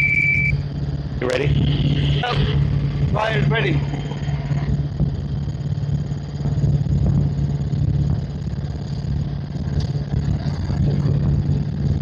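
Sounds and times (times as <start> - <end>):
constant low hum: 0.0 - 12.0
helicopter engine and rotor drone: 0.0 - 12.0.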